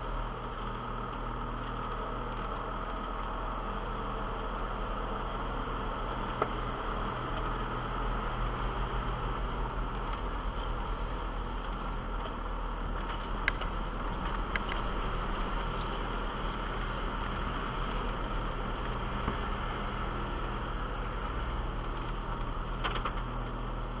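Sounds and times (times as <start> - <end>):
engine and drivetrain drone: 0.0 - 24.0.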